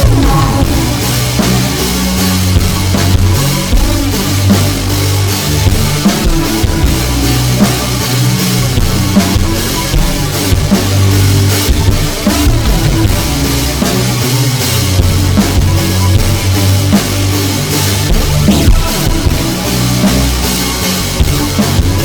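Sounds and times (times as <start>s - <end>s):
loud instrumental rock music: 0.0s - 22.0s.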